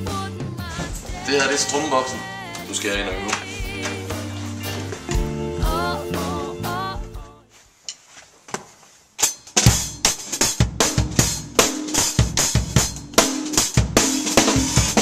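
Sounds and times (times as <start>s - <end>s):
drum kit beat: 0.0s - 7.4s, 9.5s - 15.0s.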